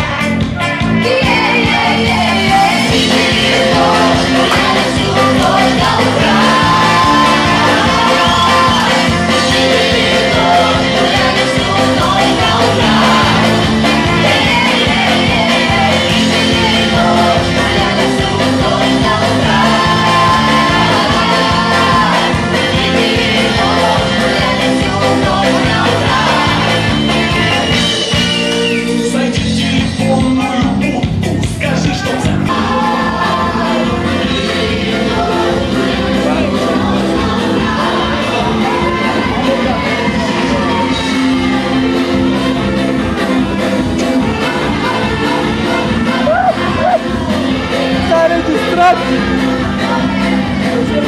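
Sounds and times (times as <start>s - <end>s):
loud dance music with singing: 0.0s - 51.0s.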